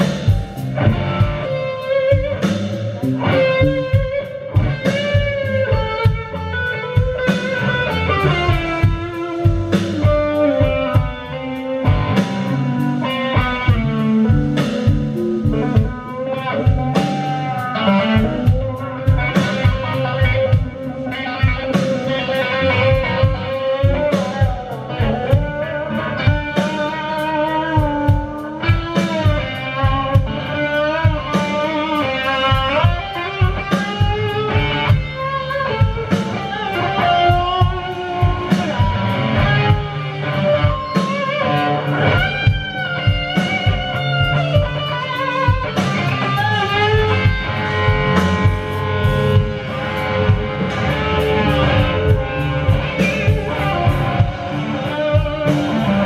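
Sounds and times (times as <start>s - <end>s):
bass guitar: 0.0s - 56.0s
drum beats: 0.0s - 56.0s
electric guitar lead bending notes: 0.0s - 56.0s.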